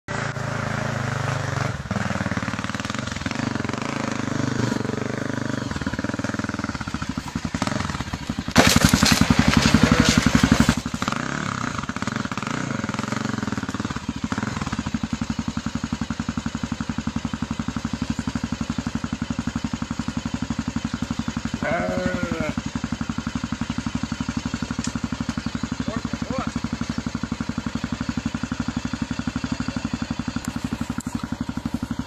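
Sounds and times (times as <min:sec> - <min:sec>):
dirt bike engine running: 0:00.1 - 0:32.0.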